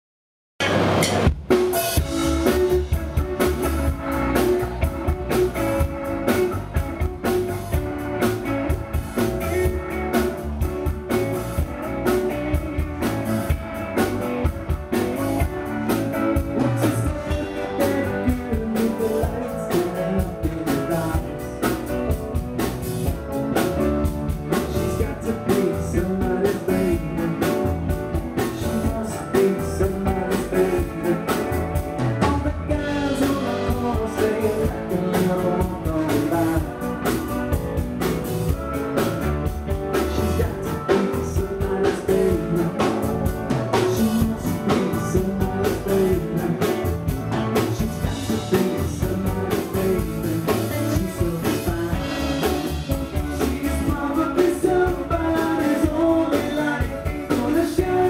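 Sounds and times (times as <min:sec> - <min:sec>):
live rock band playing: 0:00.6 - 0:58.0.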